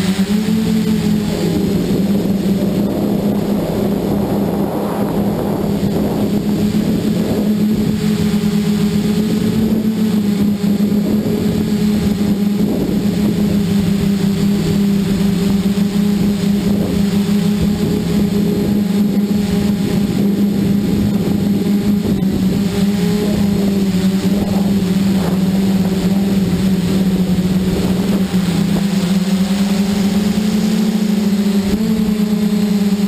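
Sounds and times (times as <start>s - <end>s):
multicopter motors humming: 0.0s - 33.0s.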